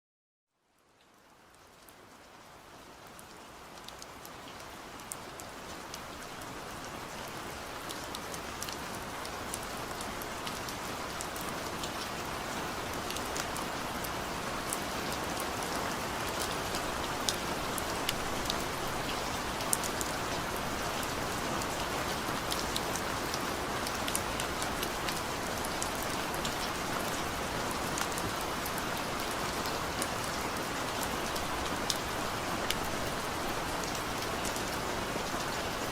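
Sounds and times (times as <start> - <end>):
rain hiss: 5.1 - 35.9.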